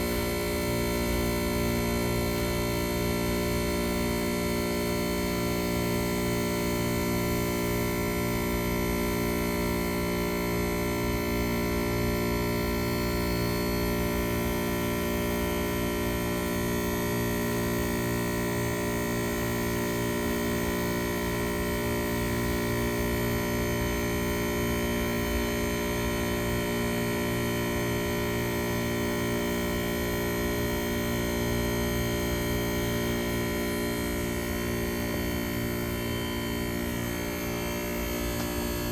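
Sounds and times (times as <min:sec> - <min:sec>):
heat pump compressor droning: 0:00.0 - 0:38.9.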